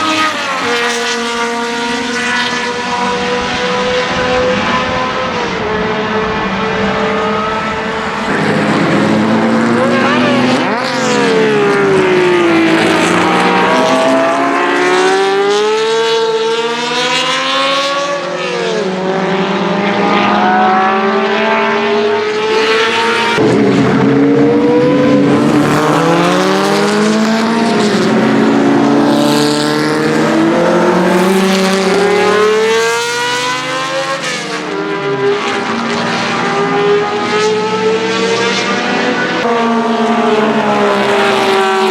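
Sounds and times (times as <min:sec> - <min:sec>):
racing engine revving: 0:00.0 - 0:41.9.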